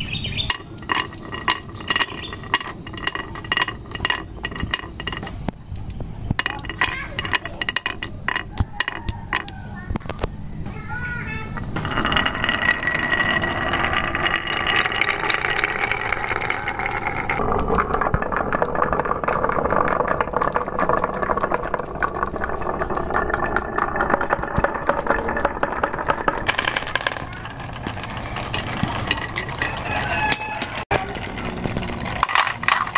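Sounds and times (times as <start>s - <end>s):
marbles rolling on wooden rails: 0.0s - 32.9s.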